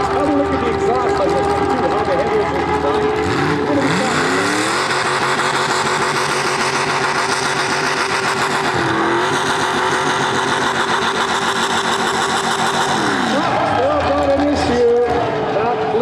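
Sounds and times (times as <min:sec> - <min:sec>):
tractor engine revving hard: 0:00.0 - 0:16.0.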